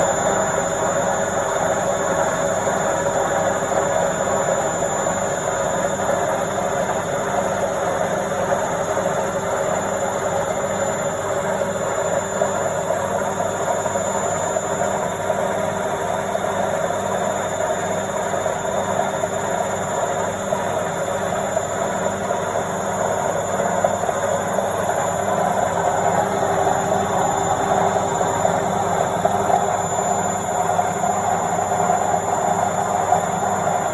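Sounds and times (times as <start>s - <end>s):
washing machine spinning: 0.0s - 33.9s.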